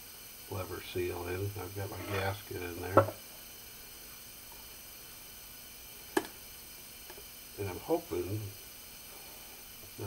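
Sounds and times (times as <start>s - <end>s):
faint room tone hiss: 0.0s - 10.0s.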